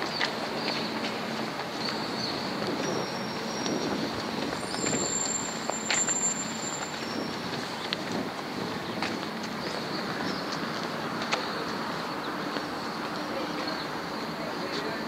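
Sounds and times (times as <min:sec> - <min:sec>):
low traffic hum: 0:00.0 - 0:15.0.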